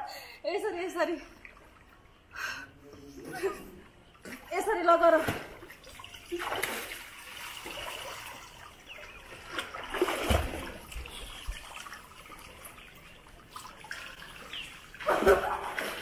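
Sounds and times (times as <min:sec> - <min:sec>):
pool water splashing: 0:00.6 - 0:16.0.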